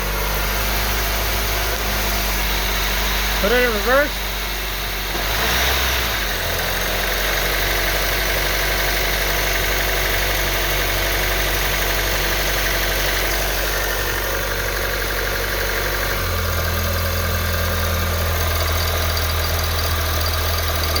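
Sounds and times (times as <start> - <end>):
car engine idling: 0.0 - 21.0
engine rattle: 0.0 - 21.0.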